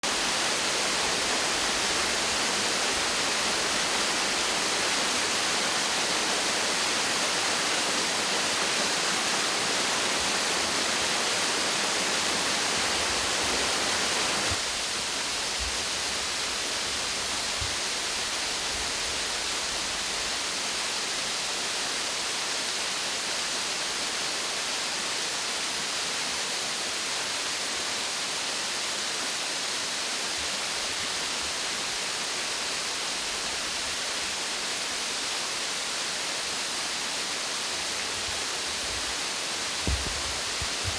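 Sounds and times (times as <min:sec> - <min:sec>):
waterfall running: 0:00.0 - 0:40.9.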